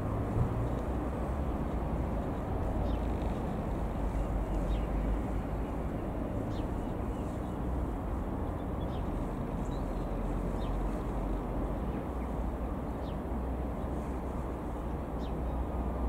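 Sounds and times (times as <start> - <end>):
steady low rumble: 0.0 - 15.2.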